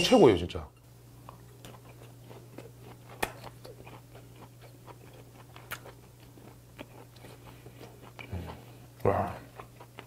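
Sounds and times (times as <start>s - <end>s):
low steady hum: 0.0s - 10.0s
person chewing food: 1.2s - 10.0s.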